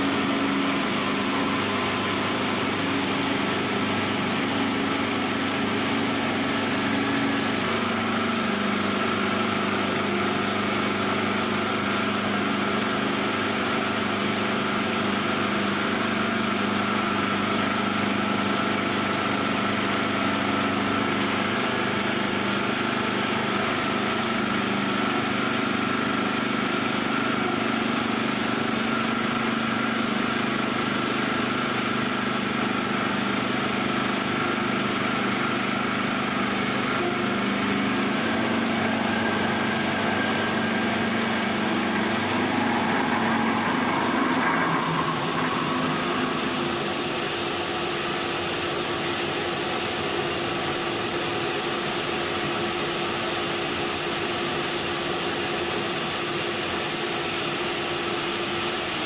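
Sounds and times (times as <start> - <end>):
doweling machine humming and whining: 0.0 - 59.0.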